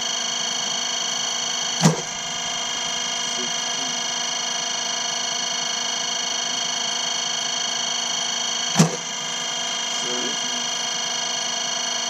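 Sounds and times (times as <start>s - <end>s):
electrical hum with high whine: 0.0s - 12.0s.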